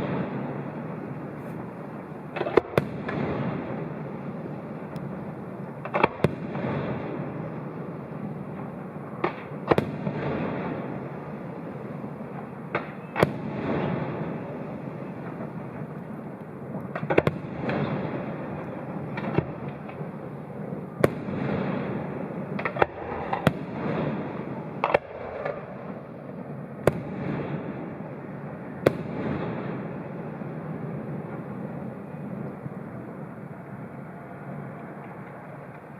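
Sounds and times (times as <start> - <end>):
fireworks bangs: 0.0 - 33.5
fireworks rumble and crackle: 0.0 - 35.9.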